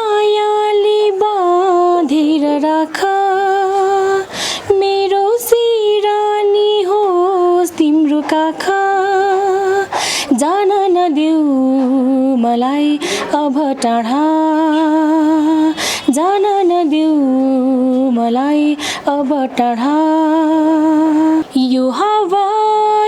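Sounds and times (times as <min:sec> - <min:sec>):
woman singing long notes: 0:00.0 - 0:23.0.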